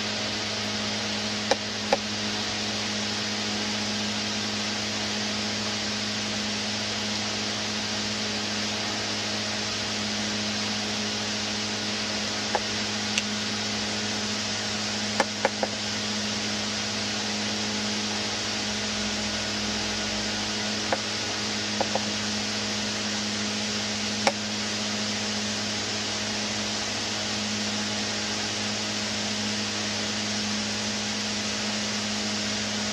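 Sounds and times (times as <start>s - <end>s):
low hum: 0.0s - 26.9s
fan-like whir: 0.0s - 32.9s.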